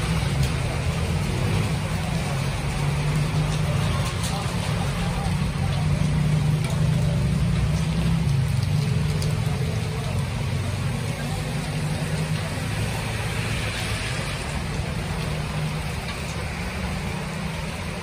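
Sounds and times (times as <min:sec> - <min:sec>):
rain on wet road: 0:00.0 - 0:18.0.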